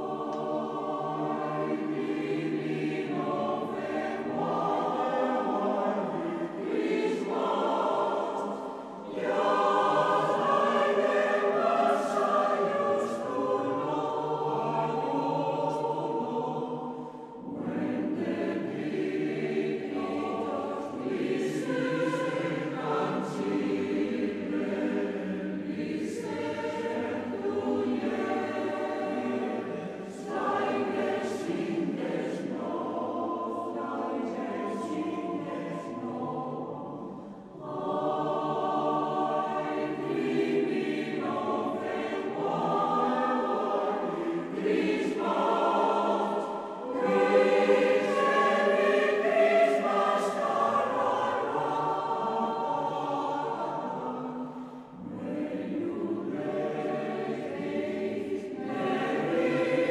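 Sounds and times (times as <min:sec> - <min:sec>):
choir singing held chords: 0:00.0 - 0:59.9.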